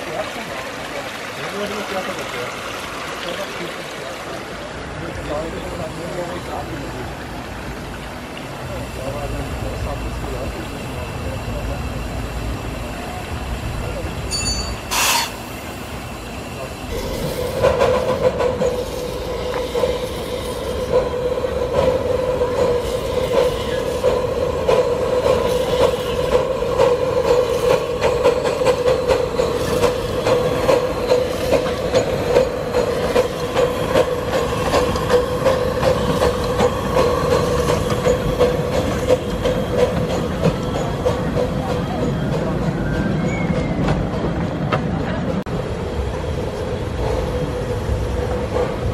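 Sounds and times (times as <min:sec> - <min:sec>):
train wheels clacking: 0:08.4 - 0:45.5, 0:46.1 - 0:48.9.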